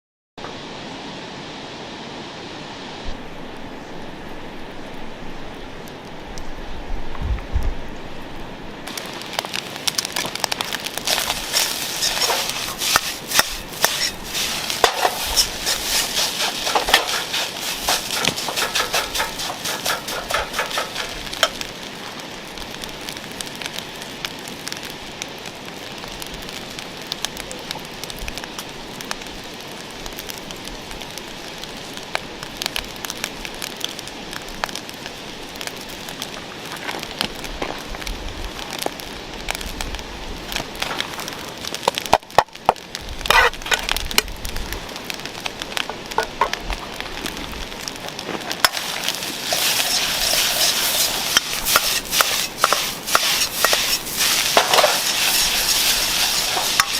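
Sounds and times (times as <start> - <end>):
campfire crackling and sizzling: 0.4 - 56.9.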